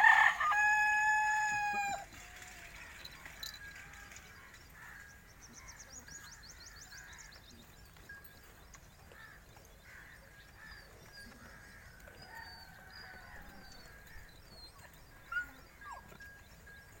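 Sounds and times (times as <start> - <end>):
faint farmyard bird chirps: 3.4 - 17.0.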